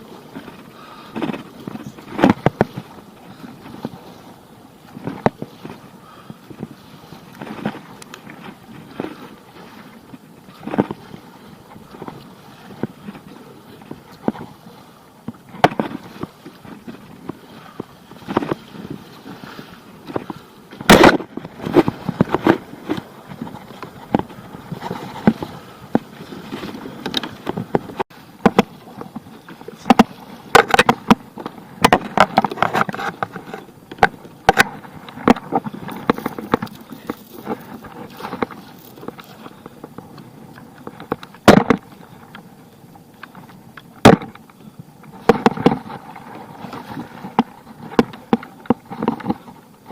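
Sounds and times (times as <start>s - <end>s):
water splashing against kayak hull: 0.0s - 49.9s.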